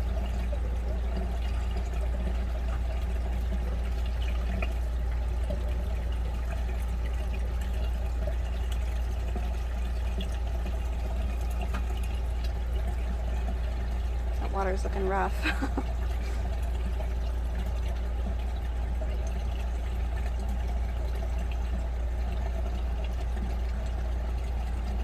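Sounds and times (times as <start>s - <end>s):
washing machine low hum: 0.0s - 25.0s
water draining and trickling: 0.0s - 25.0s.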